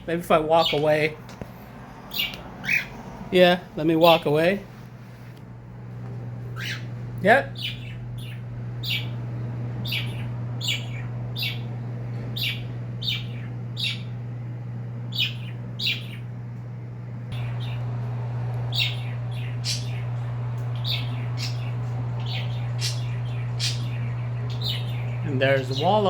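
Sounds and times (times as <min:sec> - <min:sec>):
cage birds chirping: 0:00.0 - 0:26.0
steady low hum: 0:00.0 - 0:26.0.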